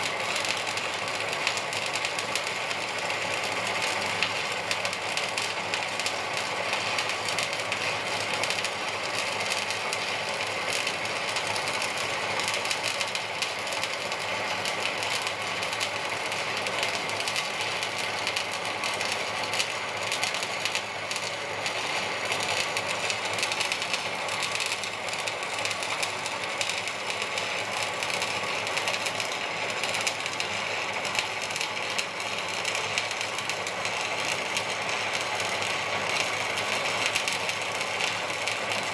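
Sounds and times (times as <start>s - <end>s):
arc welder crackling: 0.0s - 38.9s.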